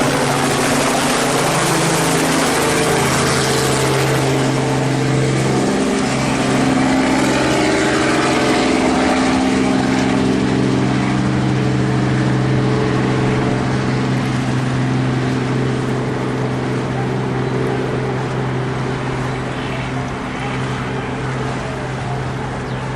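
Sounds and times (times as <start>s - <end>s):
helicopter engine and rotor drone: 0.0s - 22.9s.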